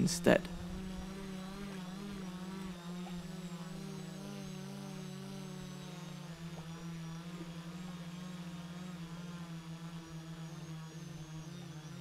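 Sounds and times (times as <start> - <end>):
faint wavering higher tones: 0.0 - 12.0
steady low hum: 0.0 - 12.0.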